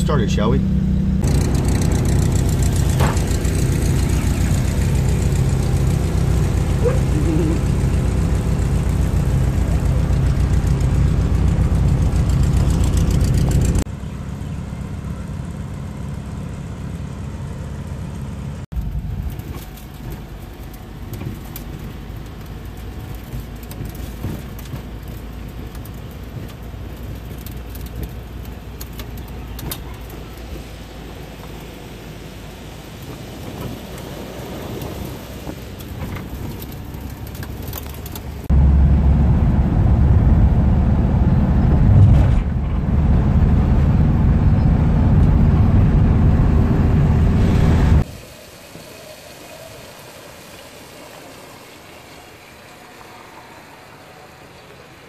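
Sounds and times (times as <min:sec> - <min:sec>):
bus engine droning: 0:00.0 - 0:48.6
street sound: 0:00.0 - 0:55.0.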